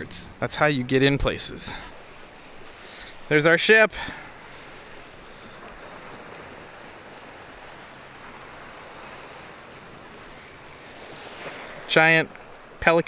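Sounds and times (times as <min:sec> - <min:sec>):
sea waves washing on shore: 0:00.0 - 0:13.0
wind: 0:00.0 - 0:13.0.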